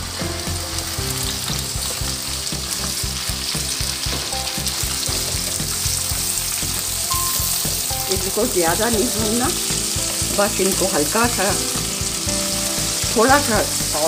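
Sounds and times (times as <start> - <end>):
okra sizzling in hot oil: 0.0 - 14.0.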